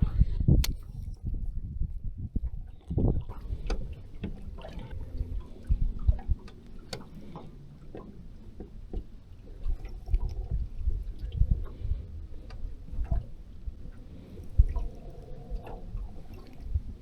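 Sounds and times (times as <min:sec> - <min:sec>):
low rumble: 0:00.0 - 0:17.0
water lapping against boat hull: 0:00.0 - 0:17.0.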